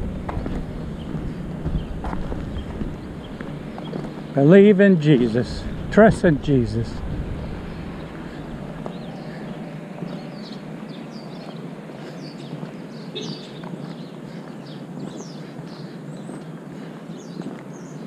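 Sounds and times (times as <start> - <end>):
footsteps on sidewalk: 0.0 - 18.0
small birds chirping: 0.0 - 18.0
street noise: 0.0 - 18.0.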